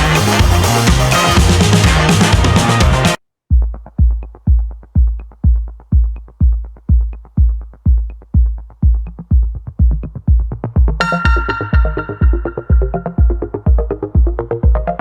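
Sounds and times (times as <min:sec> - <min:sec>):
drum machine kick: 0:00.0 - 0:15.0.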